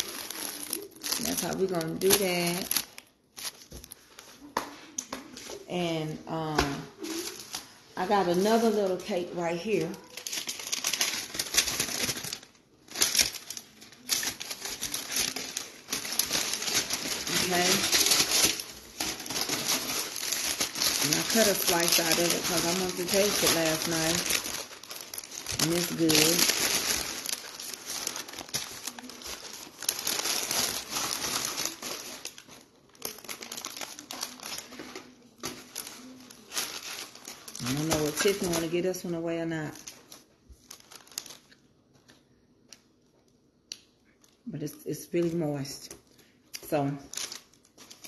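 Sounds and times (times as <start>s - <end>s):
aluminium foil crinkling: 0.0s - 4.5s, 7.0s - 48.0s.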